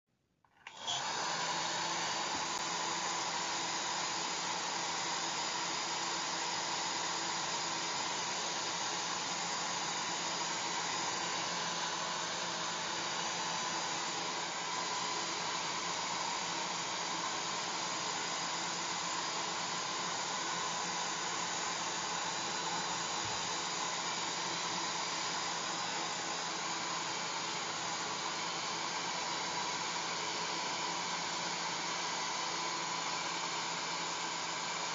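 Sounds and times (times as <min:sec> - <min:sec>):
hair dryer running: 0:00.5 - 0:34.9.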